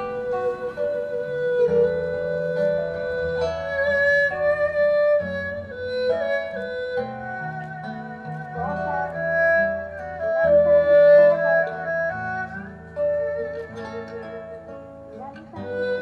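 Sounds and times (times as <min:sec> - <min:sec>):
acoustic guitar accompaniment: 0:00.0 - 0:16.0
erhu melody: 0:00.0 - 0:16.0.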